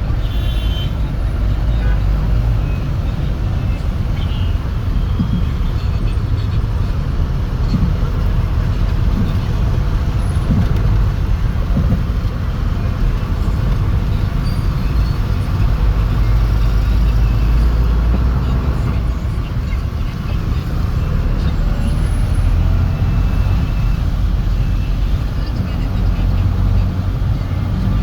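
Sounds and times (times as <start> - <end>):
street traffic engines rumbling: 0.0 - 28.0.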